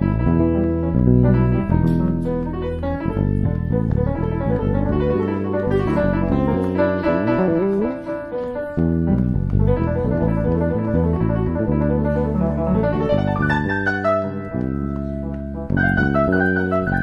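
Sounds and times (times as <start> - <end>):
electric bass line: 0.0 - 17.0
keyboard chords and runs: 0.0 - 17.0.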